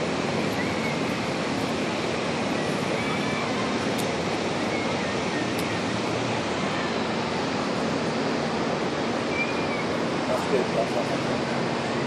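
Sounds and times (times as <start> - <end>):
churned water: 0.0 - 12.0.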